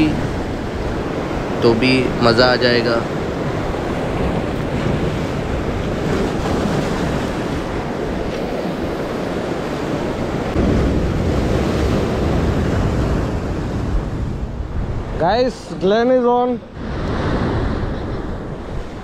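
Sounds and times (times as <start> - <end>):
sea surf breaking over concrete: 0.0 - 19.0
wind buffeting microphone: 0.0 - 19.0.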